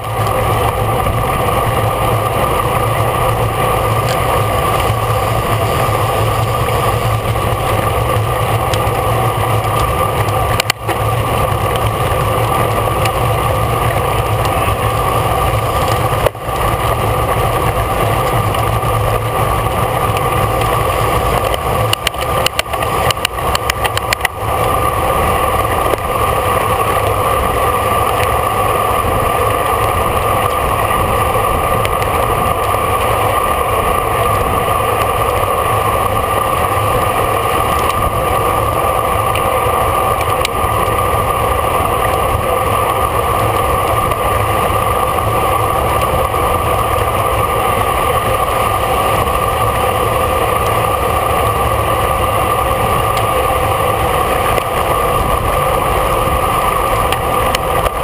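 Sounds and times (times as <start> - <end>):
bicycle road noise: 0.0 - 58.0
wind noise: 0.0 - 58.0.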